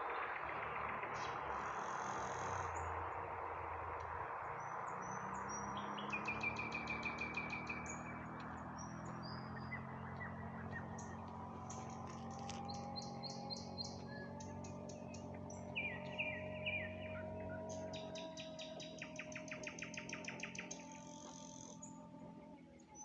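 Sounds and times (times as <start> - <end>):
low hum: 0.0 - 23.0
nightingale singing: 0.0 - 23.0.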